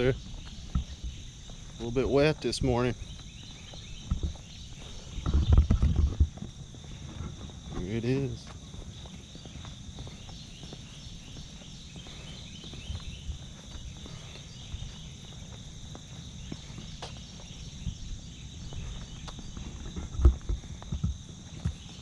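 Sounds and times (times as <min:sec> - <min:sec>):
footsteps on asphalt: 0:00.0 - 0:22.0.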